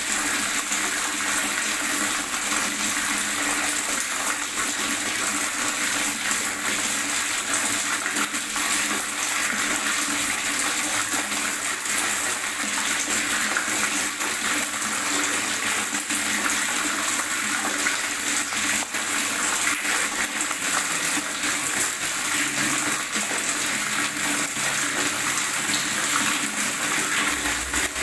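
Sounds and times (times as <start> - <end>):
running water gurgling: 0.0 - 28.0.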